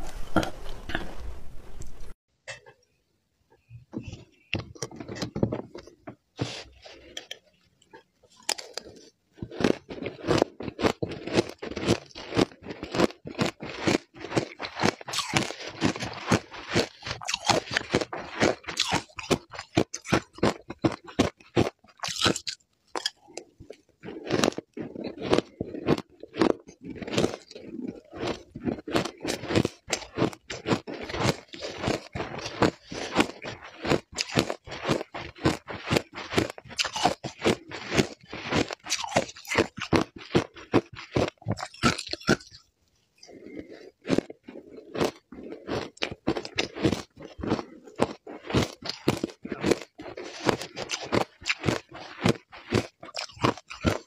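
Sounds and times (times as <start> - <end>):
ice crunching while chewed: 4.0 - 54.0.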